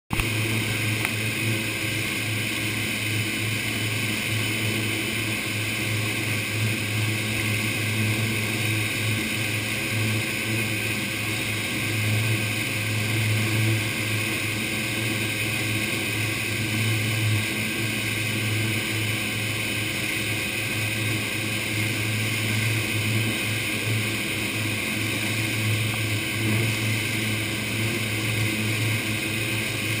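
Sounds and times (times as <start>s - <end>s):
churning wake water: 0.1s - 30.0s
motorboat engine drone: 0.1s - 30.0s.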